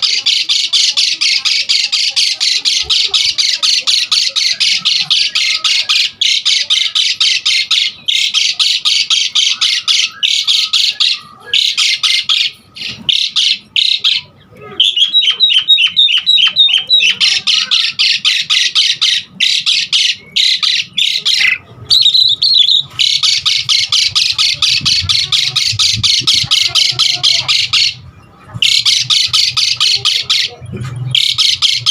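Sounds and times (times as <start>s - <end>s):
starling singing: 0.0s - 31.9s.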